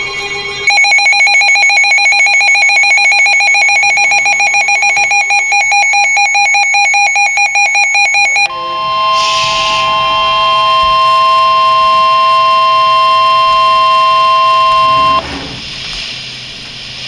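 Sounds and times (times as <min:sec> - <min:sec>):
loud electronic alert tone: 0:00.0 - 0:15.2.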